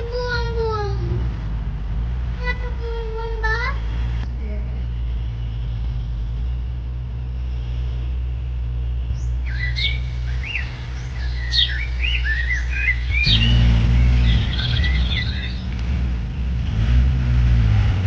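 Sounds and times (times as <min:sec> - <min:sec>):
birds chirping: 0:00.0 - 0:17.1
tractor engine humming: 0:00.0 - 0:18.0.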